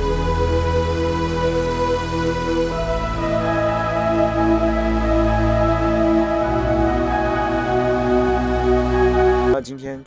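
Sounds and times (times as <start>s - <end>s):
sustained background music chords: 0.0s - 10.0s.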